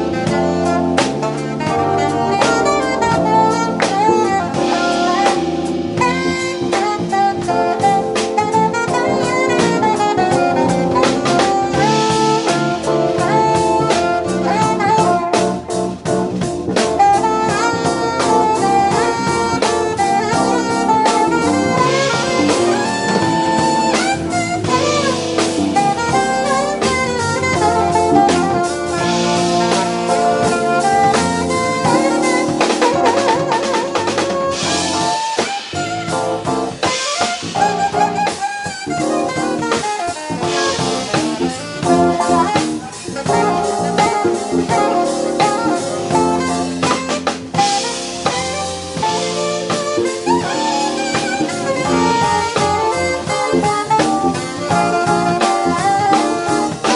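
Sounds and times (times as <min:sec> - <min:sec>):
drum kit: 0:00.0 - 0:56.9
electric bass: 0:00.0 - 0:56.9
keyboards: 0:00.0 - 0:56.9
saxophone: 0:00.0 - 0:56.9.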